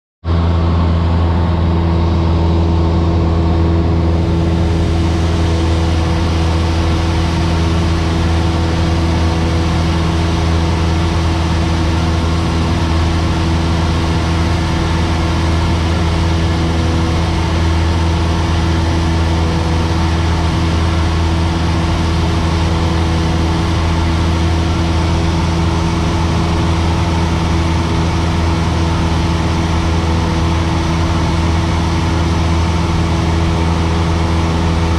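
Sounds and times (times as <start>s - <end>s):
aeroplane engine droning: 0.2s - 34.9s.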